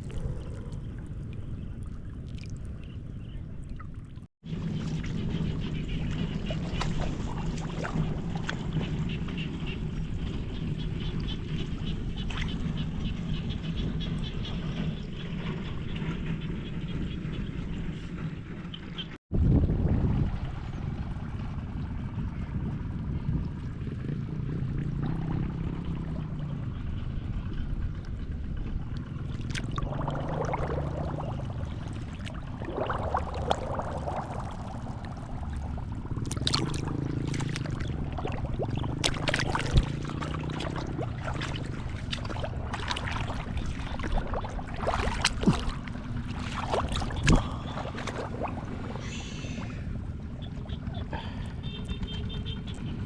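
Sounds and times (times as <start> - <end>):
water and mud splashing: 0.0 - 18.3, 19.4 - 53.0
steady low rumble: 0.0 - 53.0.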